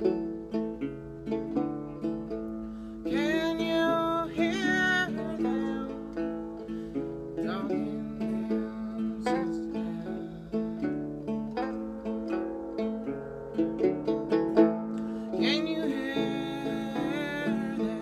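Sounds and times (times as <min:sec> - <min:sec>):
acoustic guitar: 0:00.0 - 0:18.0
banjo picking: 0:00.0 - 0:18.0
harmonica melody: 0:00.0 - 0:18.0.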